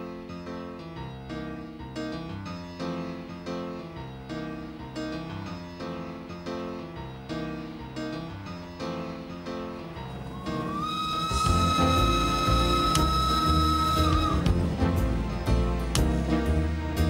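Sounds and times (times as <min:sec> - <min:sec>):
keyboard background music: 0:00.0 - 0:17.0.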